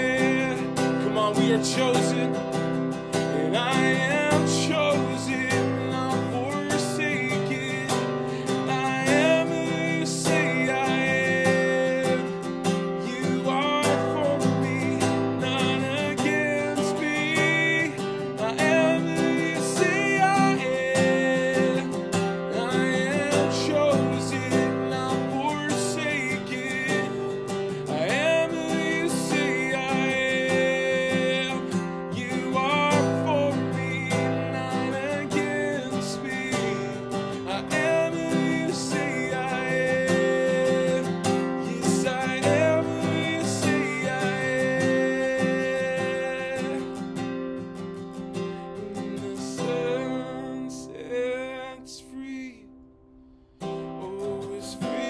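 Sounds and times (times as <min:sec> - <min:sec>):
man singing worship song: 0:00.0 - 0:02.5, 0:03.1 - 0:47.1, 0:48.8 - 0:52.7, 0:54.0 - 0:55.0
strummed acoustic guitar: 0:00.0 - 0:55.0.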